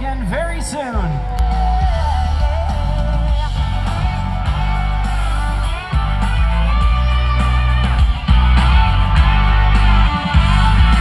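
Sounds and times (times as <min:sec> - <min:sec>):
loud rock music with guitar: 0:00.0 - 0:11.0.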